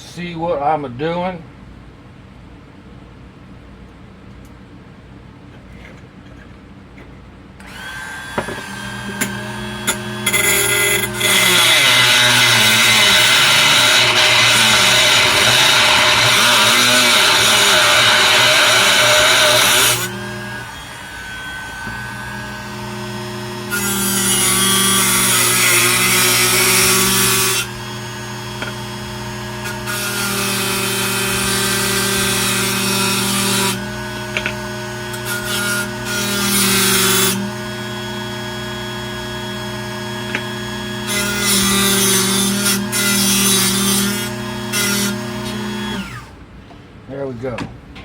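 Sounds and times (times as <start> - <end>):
power tool motor running: 7.6 - 46.4
tool grinding metal: 7.6 - 46.4.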